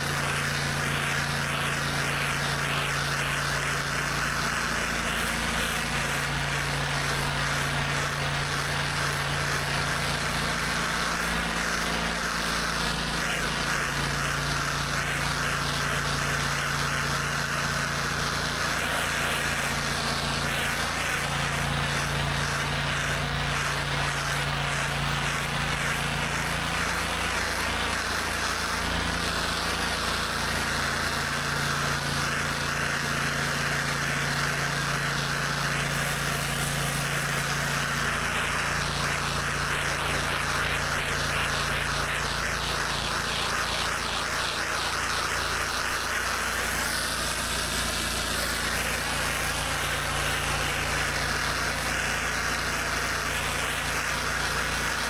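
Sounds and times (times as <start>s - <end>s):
pressure washer engine drone: 0.0s - 55.0s
water spray hissing on concrete: 0.0s - 55.0s.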